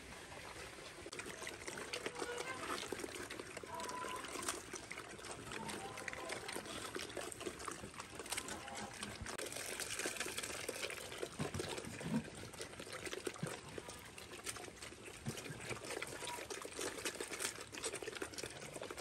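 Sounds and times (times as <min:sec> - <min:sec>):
piglets chewing and slurping: 0:00.0 - 0:19.0.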